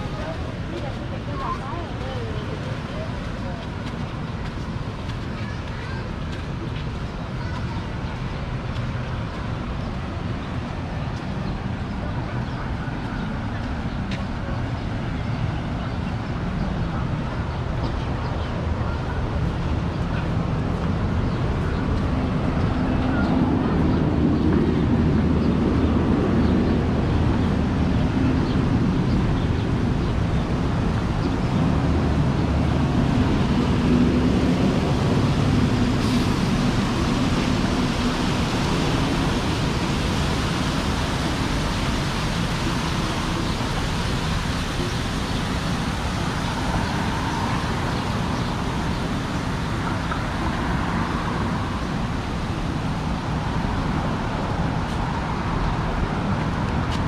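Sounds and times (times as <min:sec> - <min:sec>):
road traffic: 0:00.0 - 0:57.0
wind buffeting microphone: 0:00.0 - 0:57.0.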